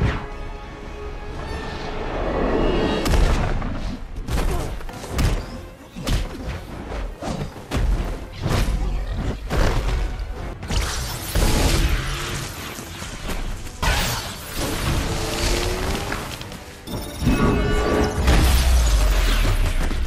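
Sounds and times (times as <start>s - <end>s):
action film music: 0.0s - 20.0s.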